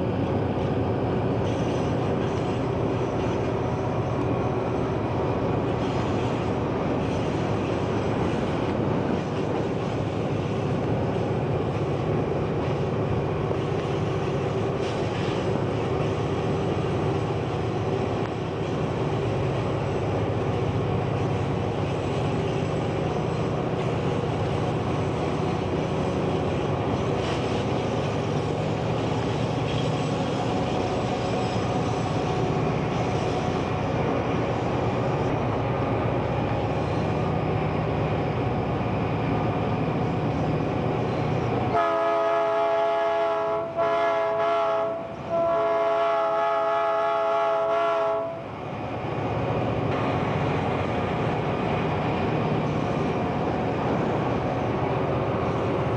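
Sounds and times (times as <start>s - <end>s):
locomotive engine drone: 0.0s - 55.9s.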